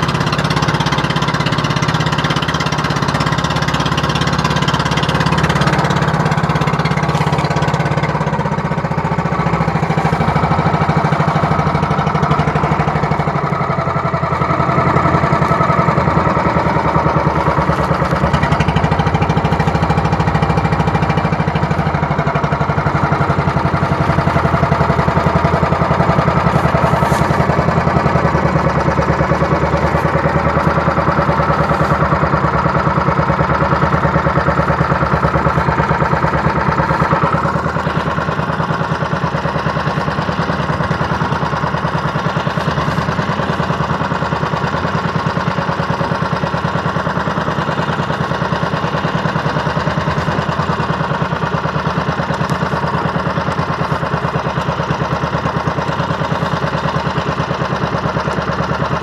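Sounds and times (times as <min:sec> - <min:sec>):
small boat engine running: 0:00.0 - 0:59.0.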